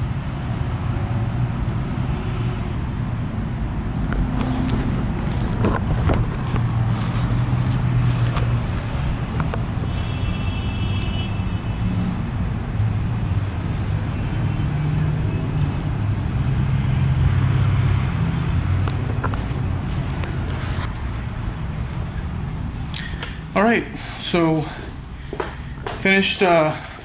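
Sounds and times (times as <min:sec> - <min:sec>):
car engines passing: 0:00.0 - 0:27.0.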